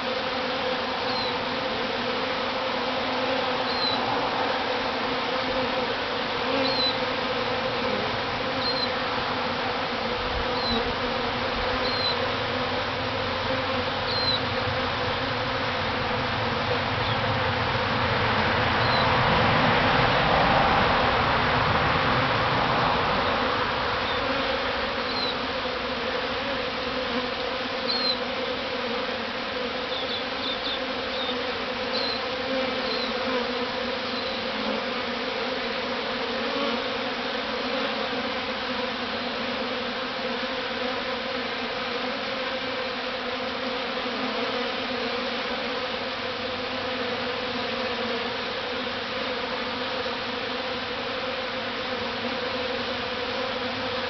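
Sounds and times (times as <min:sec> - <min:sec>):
bee swarm buzzing: 0:00.0 - 0:54.0.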